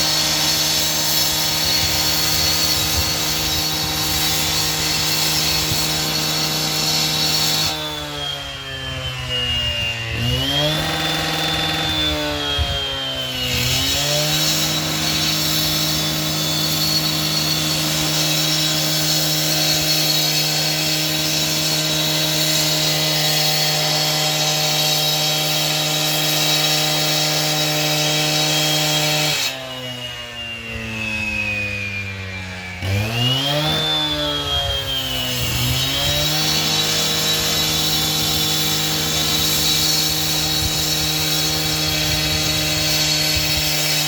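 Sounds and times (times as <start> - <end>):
two-stroke saw revving and cutting: 0.0 - 44.0.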